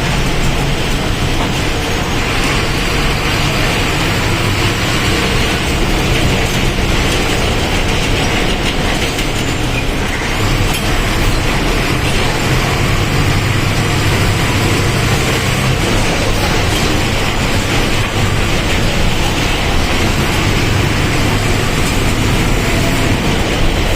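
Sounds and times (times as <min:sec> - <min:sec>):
bus diesel engine running: 0:00.0 - 0:23.9.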